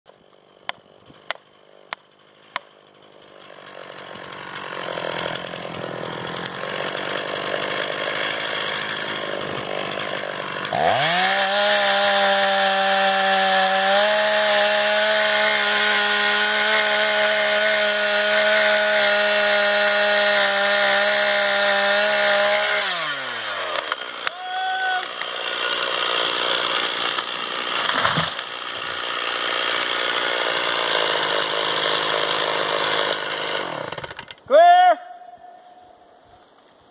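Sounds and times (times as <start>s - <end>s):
chainsaw running: 0.1s - 34.6s.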